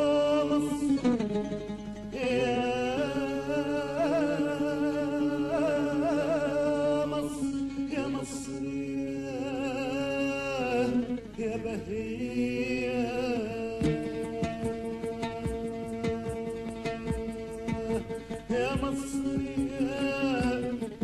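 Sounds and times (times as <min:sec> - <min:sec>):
person singing wordless vocalise: 0:00.0 - 0:01.2, 0:02.1 - 0:21.0.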